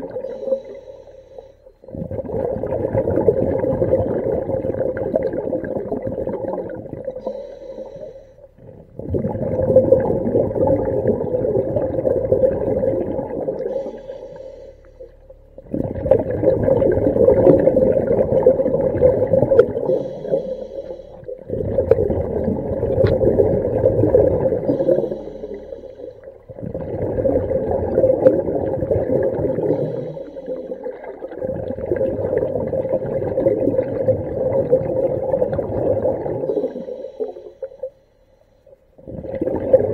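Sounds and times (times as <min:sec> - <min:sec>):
underwater bubbles gurgling: 0:00.0 - 0:38.0, 0:38.7 - 0:39.9.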